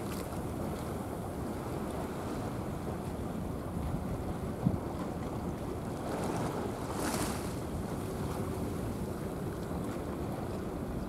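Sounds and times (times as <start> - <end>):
rumble and wash of water: 0.0 - 11.0
wind buffeting microphone: 0.0 - 11.0.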